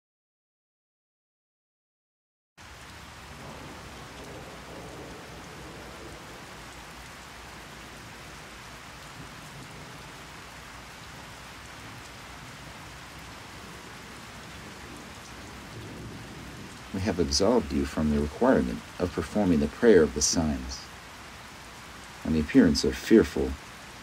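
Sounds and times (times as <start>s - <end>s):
heavy rain: 2.6s - 24.0s.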